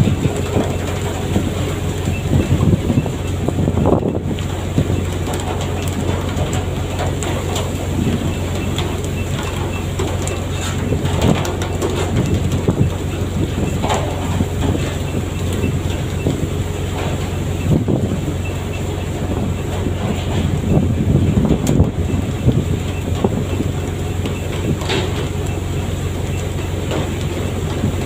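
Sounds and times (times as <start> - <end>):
knocks and clatter: 0.0 - 25.7, 26.3 - 28.0
boat engine humming: 0.0 - 28.0.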